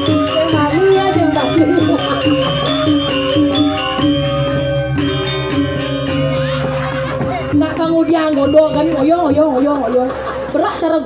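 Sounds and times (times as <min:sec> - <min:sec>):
gamelan music: 0:00.0 - 0:11.0.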